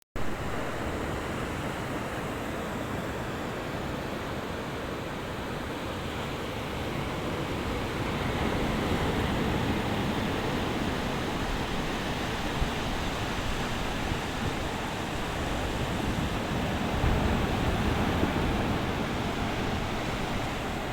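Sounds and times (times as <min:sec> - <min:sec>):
sea waves washing on shore: 0:00.2 - 0:20.9.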